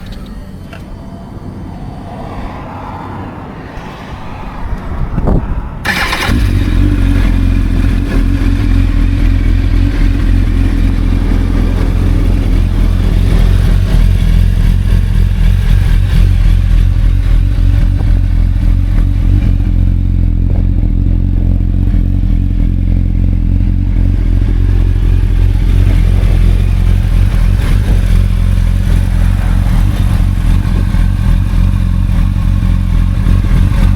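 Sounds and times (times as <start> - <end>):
motorcycle engine cranking and idling: 5.8 - 33.9.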